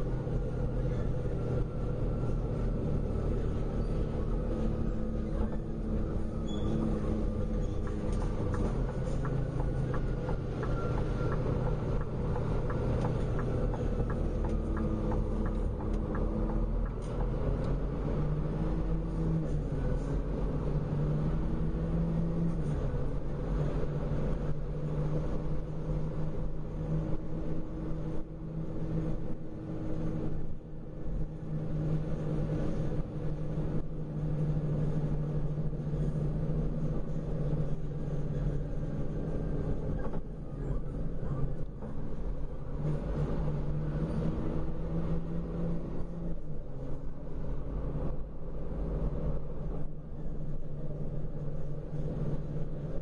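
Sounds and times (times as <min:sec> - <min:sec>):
road noise rumble: 0:00.0 - 0:53.0.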